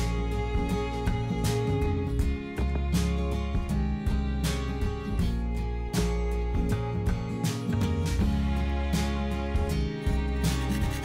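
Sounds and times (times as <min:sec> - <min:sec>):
acoustic guitar music with bass: 0:00.0 - 0:11.0.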